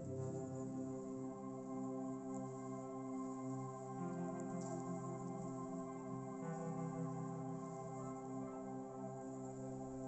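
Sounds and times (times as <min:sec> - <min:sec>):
ambient music with held tones: 0:00.0 - 0:10.0.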